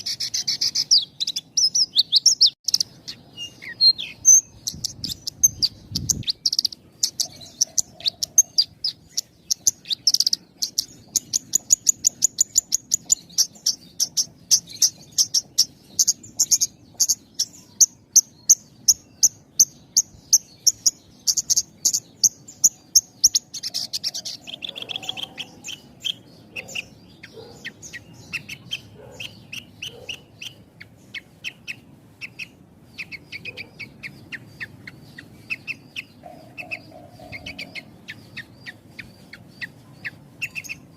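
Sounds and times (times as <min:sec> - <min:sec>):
lark singing high chirps: 0:00.0 - 0:40.9.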